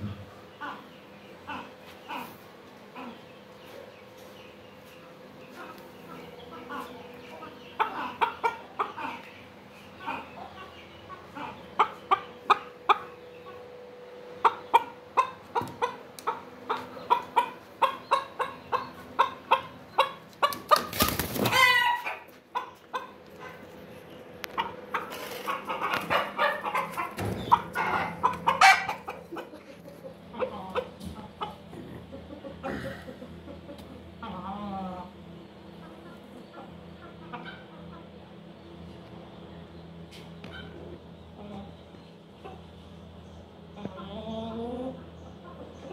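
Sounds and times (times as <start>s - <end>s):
chicken clucking: 0.0s - 45.9s
faint steady hum: 0.0s - 45.9s.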